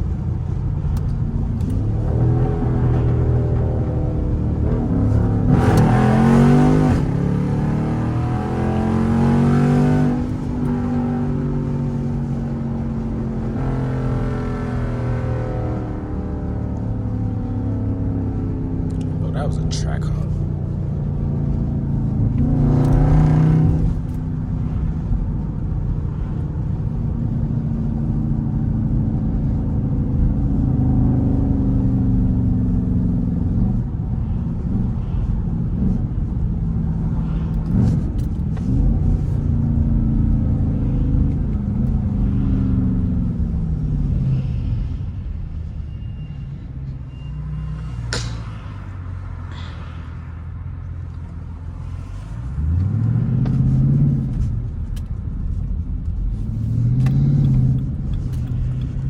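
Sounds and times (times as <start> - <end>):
loud car exhaust rumbling: 0.0 - 59.0.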